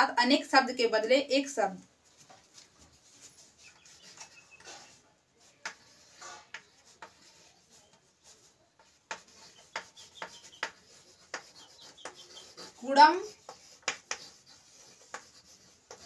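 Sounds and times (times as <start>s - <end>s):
chalk scratching on chalkboard: 2.0s - 16.0s.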